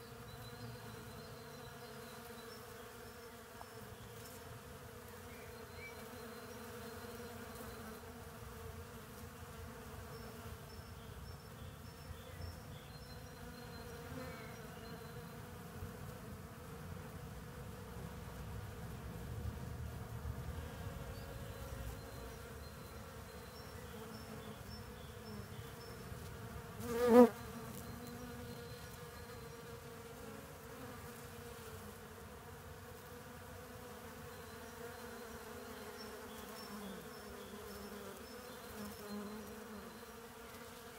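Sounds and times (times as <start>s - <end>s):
bees buzzing: 0.0s - 17.5s, 20.6s - 40.9s
loud close bee buzz: 0.0s - 18.6s, 20.4s - 40.9s.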